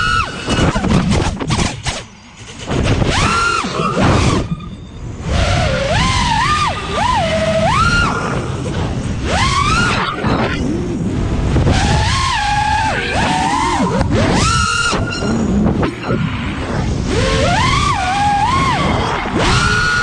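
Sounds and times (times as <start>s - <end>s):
drone motors whining: 0.0s - 20.0s
wind on microphone: 0.0s - 20.0s.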